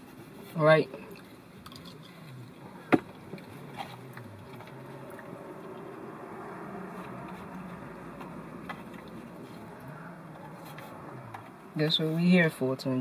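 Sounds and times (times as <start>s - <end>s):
steady low hum in car: 0.0s - 13.0s
chewing: 1.0s - 11.7s.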